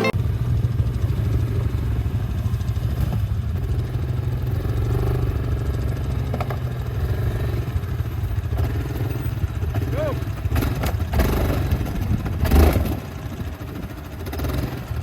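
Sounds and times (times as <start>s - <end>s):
atv engine droning: 0.0s - 15.0s.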